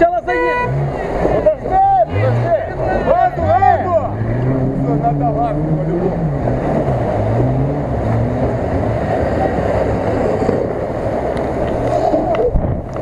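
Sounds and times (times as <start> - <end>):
suv engine running: 0.0 - 13.0.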